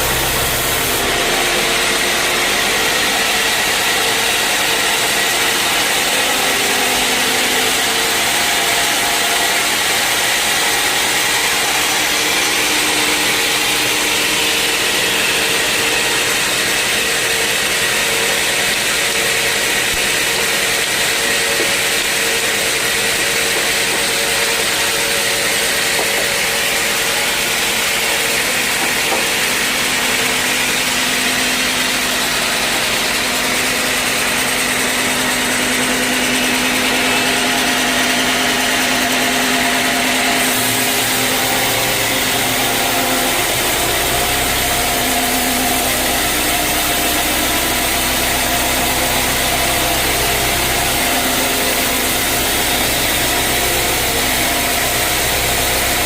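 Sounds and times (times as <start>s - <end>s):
sawmill saw whirring through log: 0.0s - 56.0s.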